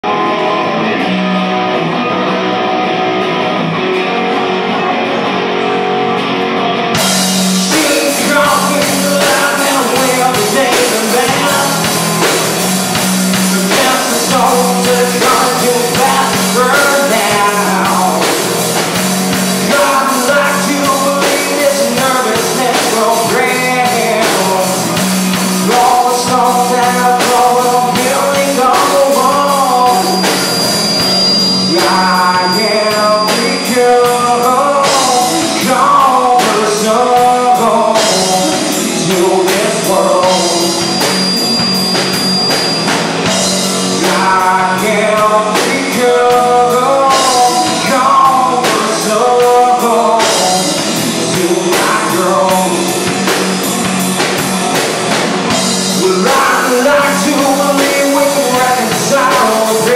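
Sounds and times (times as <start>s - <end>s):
bass guitar: 0.0s - 59.9s
electric guitar: 0.0s - 59.9s
drums and cymbals beat: 7.0s - 59.9s.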